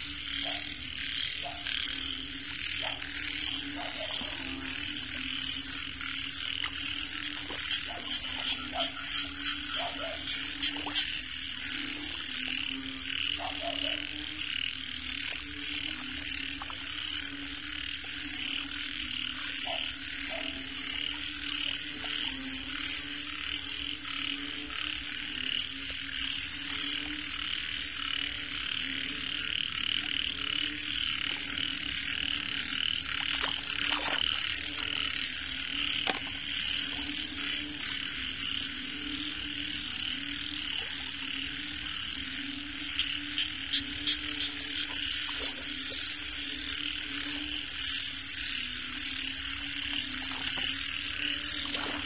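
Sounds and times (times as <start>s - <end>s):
frogs croaking: 0.0s - 52.0s.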